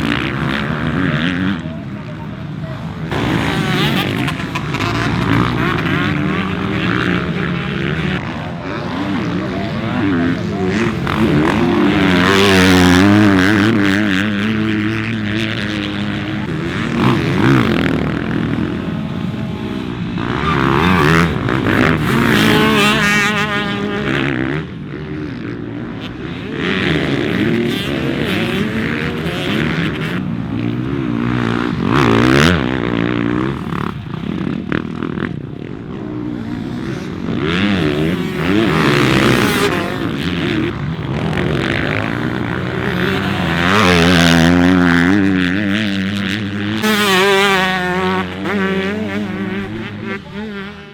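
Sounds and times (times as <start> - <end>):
motocross bikes revving: 0.0 - 50.9.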